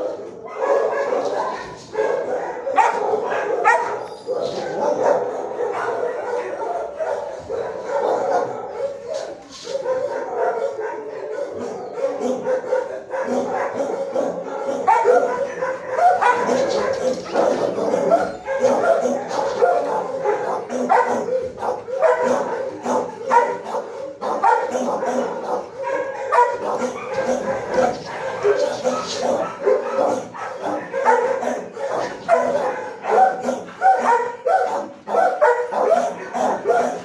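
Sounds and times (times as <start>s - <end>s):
dogs barking and yipping: 0.0s - 37.0s.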